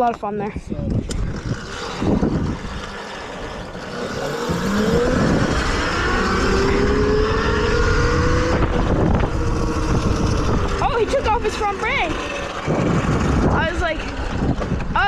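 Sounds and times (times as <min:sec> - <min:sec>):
wind rumbling on microphone: 0:00.0 - 0:15.0
electric motor whining: 0:01.0 - 0:15.0.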